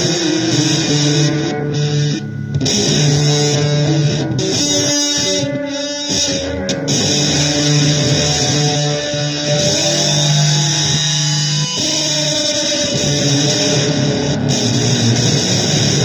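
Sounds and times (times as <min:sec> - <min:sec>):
electric guitar playing blues: 0:00.0 - 0:16.0.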